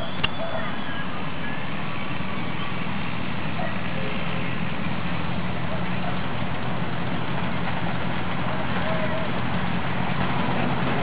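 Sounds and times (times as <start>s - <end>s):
locomotive engine humming: 0.0s - 11.0s.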